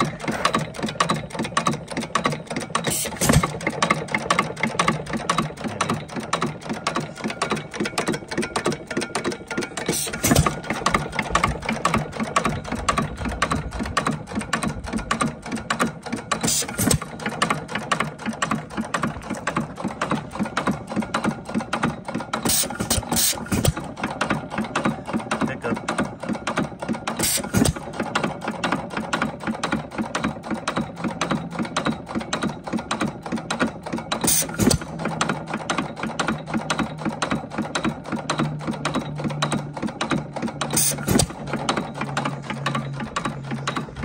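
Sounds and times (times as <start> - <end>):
engine firing stroke: 0.0 - 44.0
engine valve gear clicking: 0.1 - 28.3, 31.2 - 44.0.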